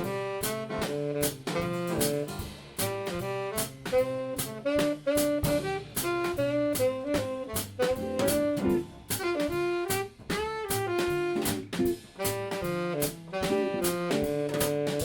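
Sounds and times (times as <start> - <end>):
drum kit strikes: 0.0 - 15.0
tenor saxophone melody: 0.0 - 15.0.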